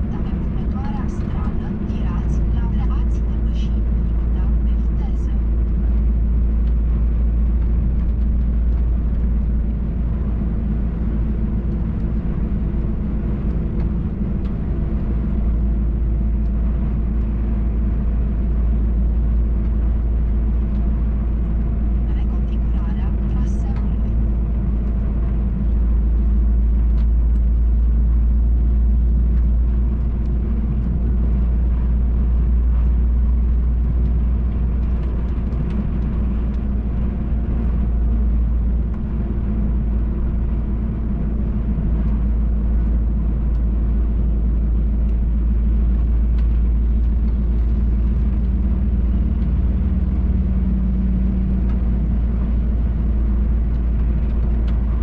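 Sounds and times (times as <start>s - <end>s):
road rumble: 0.0s - 55.0s
truck engine droning: 0.0s - 55.0s.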